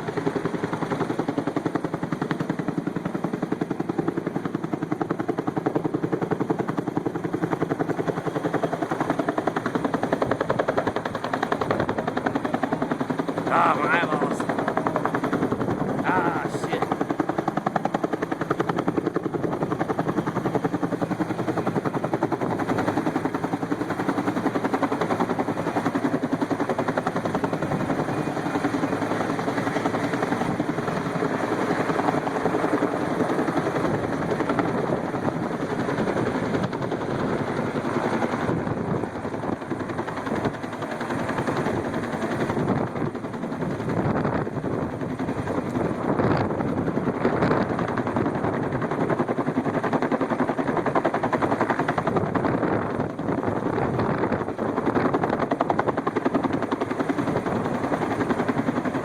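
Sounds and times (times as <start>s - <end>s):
helicopter rotor blades chopping: 0.0s - 59.0s.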